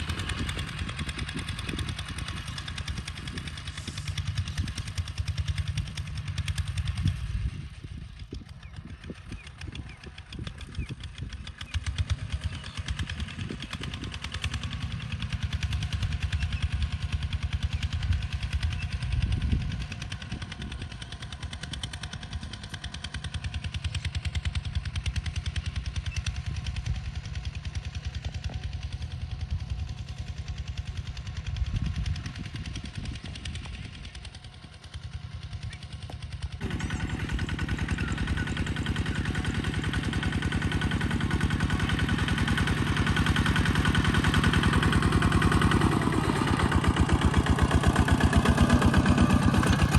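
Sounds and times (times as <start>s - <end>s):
walking tractor diesel engine: 0.0s - 49.9s.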